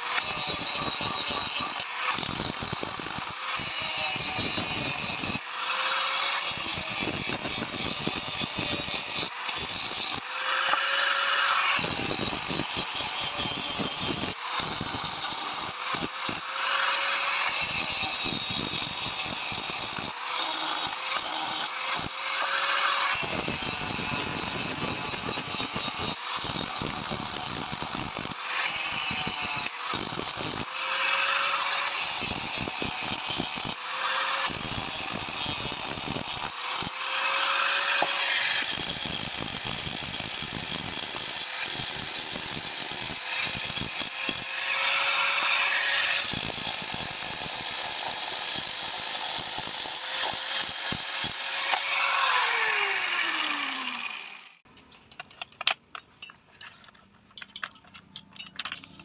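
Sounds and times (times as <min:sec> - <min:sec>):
power tool cutting metal: 0:00.0 - 0:54.7.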